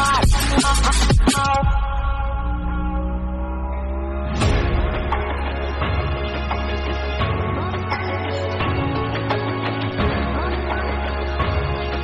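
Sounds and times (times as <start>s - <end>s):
held chords over deep bass: 0.0s - 12.0s.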